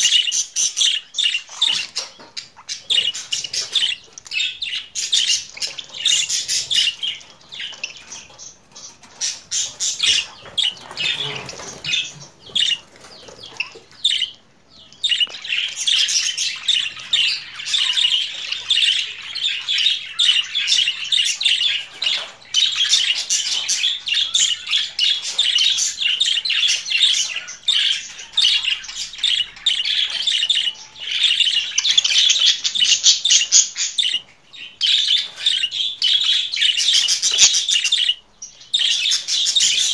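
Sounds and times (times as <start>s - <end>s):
budgerigar chirping and squawking: 0.0s - 39.9s.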